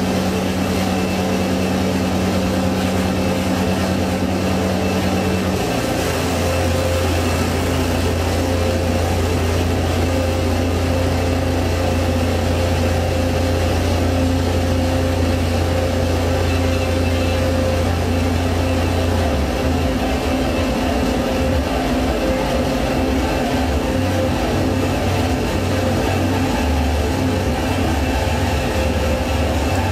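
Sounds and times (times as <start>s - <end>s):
dense electronic drone: 0.0s - 29.9s.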